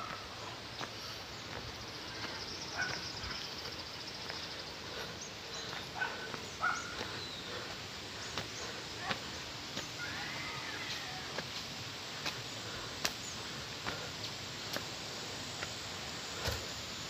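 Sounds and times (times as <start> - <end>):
footsteps on concrete steps: 0.0 - 16.8.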